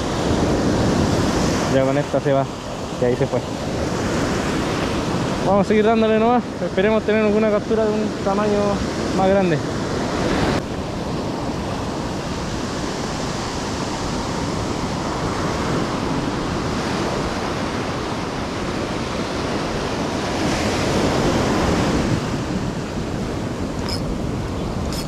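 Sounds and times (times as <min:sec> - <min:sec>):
ocean surf breaking: 0:00.0 - 0:25.0
wind on microphone: 0:00.0 - 0:25.0.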